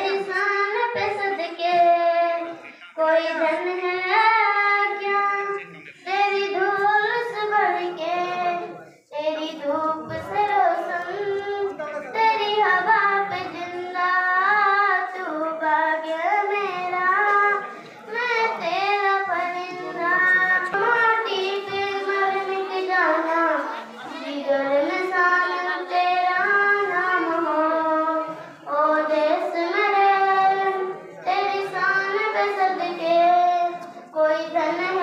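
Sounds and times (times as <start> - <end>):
girl singing: 0.0 - 35.0.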